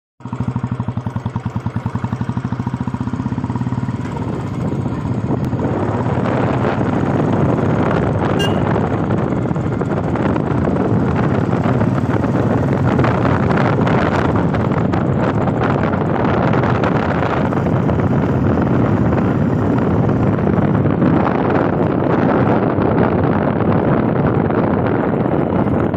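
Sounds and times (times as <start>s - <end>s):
motorcycle engine: 0.2s - 25.9s
rushing wind noise: 2.1s - 25.9s.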